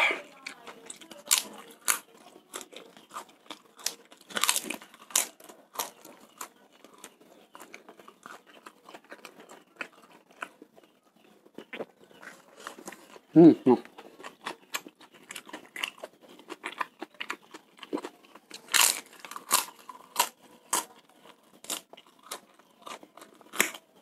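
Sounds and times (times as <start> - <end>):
crunching crisp crackers: 0.0 - 24.0.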